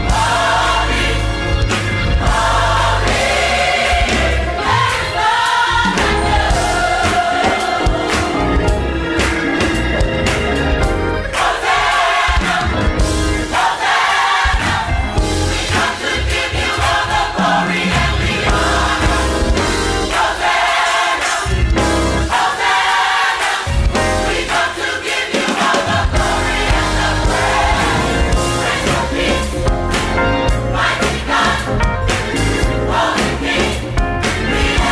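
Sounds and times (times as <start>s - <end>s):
gospel choir singing: 0.0s - 34.9s
instrumental accompaniment: 0.0s - 34.9s.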